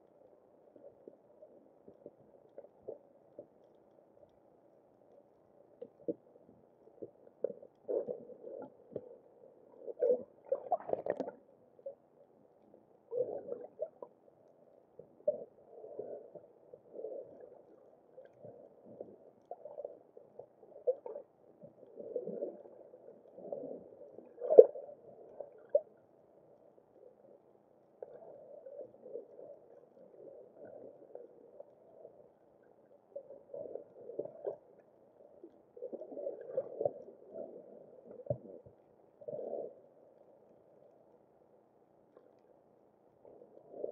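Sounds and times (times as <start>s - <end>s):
muffled underwater water sloshing: 0.0s - 43.9s.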